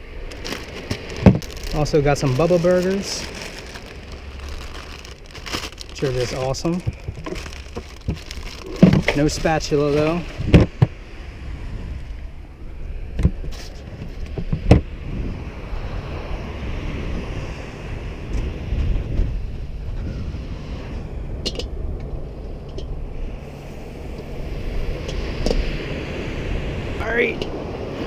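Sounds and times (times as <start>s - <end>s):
faint surf: 0.0s - 28.0s
wind rumbling on microphone: 0.0s - 28.0s.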